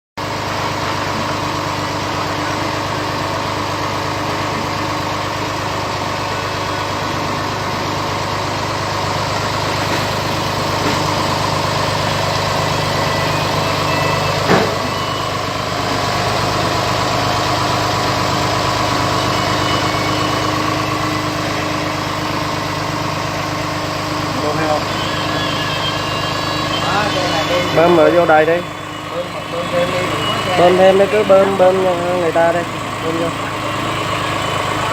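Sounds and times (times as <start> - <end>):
engine idling: 0.2 - 34.9.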